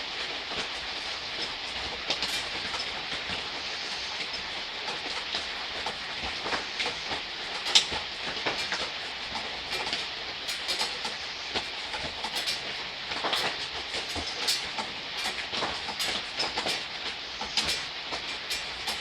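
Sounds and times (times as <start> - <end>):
gentle rain falling: 0.0 - 19.0.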